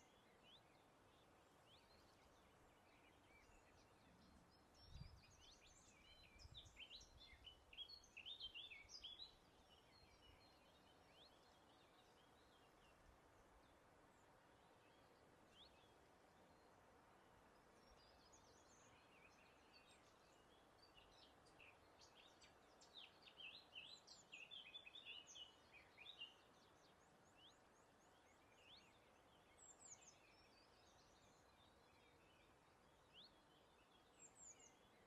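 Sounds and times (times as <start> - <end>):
soft breeze: 0.0 - 35.0.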